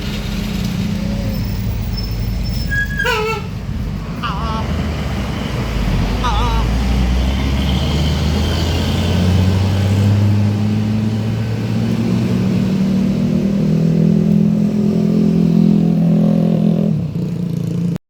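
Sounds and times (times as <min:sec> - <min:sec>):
bus diesel engine running: 0:00.0 - 0:16.2.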